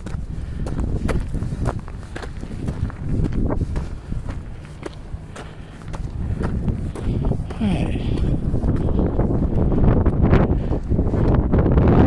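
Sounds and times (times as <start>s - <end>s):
footsteps on a trail: 0.0s - 12.0s
wind buffeting microphone: 0.0s - 12.0s.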